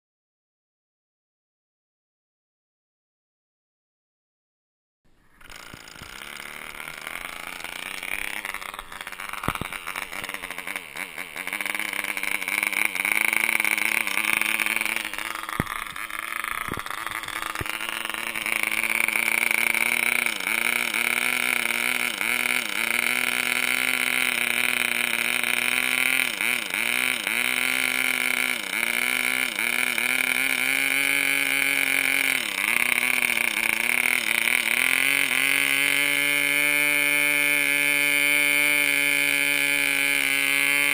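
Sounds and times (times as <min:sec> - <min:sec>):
model engine high-pitched buzz: 0:05.2 - 0:40.9.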